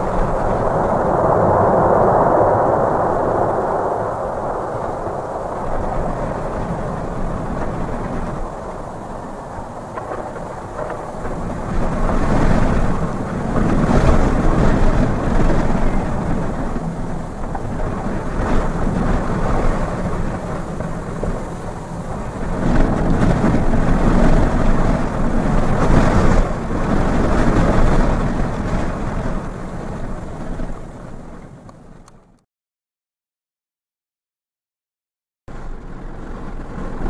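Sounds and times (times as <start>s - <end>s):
jet engines rumbling: 0.0s - 32.4s, 35.5s - 37.0s
strong wind gusts: 0.0s - 32.4s, 35.5s - 37.0s.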